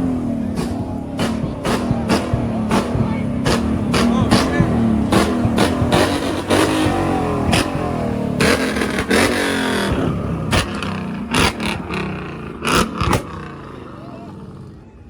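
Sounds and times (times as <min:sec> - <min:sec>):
car engine revving hard: 0:00.0 - 0:14.8
loud sharp bangs: 0:00.4 - 0:13.8.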